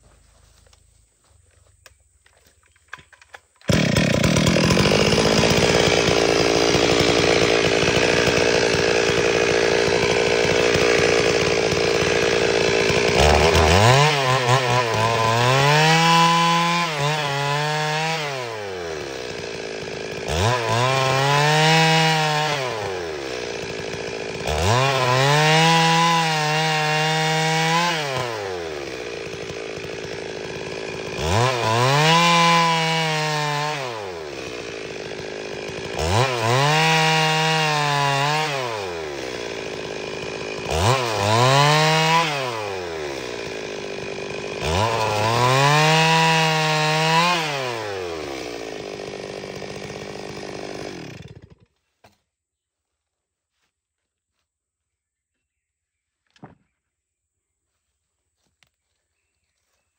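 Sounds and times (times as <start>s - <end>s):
chainsaw cutting wood: 1.8s - 52.3s.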